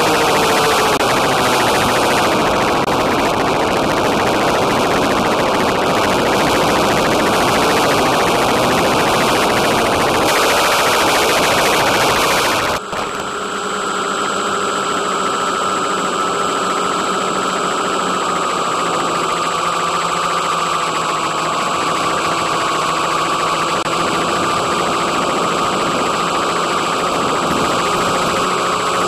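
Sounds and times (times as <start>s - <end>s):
electric motors humming and whining: 0.0s - 29.0s.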